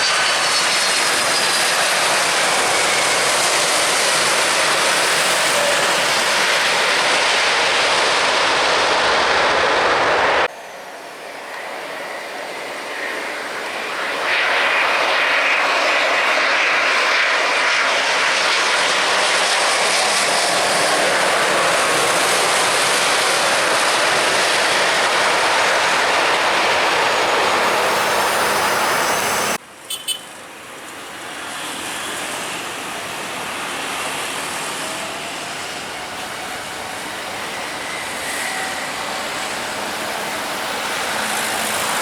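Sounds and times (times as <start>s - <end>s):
airliner engines: 0.0s - 42.0s.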